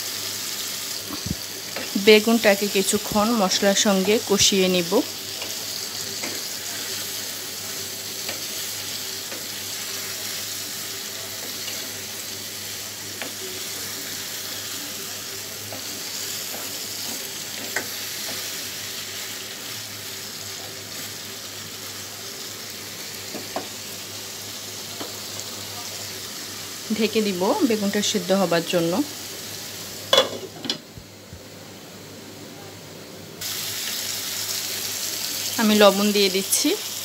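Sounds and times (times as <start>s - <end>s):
eggplant sizzling in oil: 0.0s - 30.9s, 33.4s - 37.0s.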